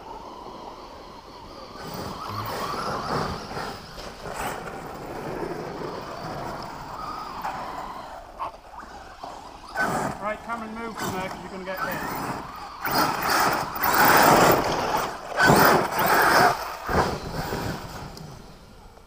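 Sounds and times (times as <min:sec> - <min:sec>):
toy truck motor: 0:00.0 - 0:19.0
tyres on loose dirt: 0:00.0 - 0:19.0.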